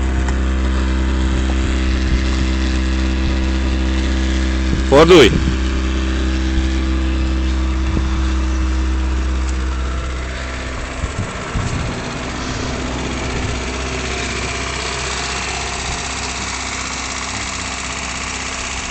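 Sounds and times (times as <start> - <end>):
engine running: 0.0 - 18.9.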